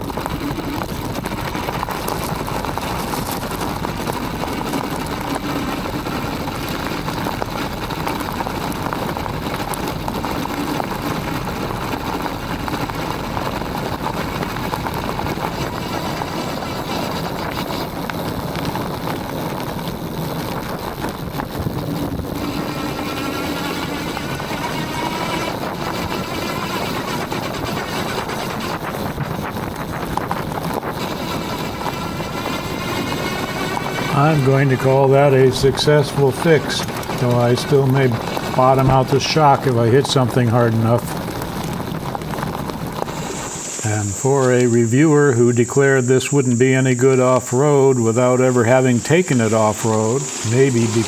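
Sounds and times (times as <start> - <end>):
tyres rumbling on gravel: 0.0 - 51.0.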